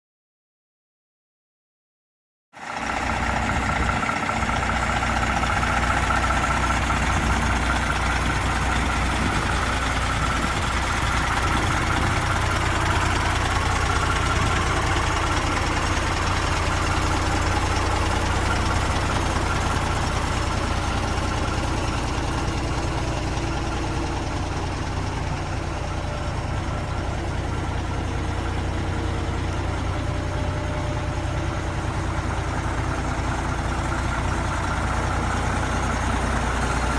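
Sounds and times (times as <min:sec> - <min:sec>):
diesel engine idling: 0:02.6 - 0:36.9.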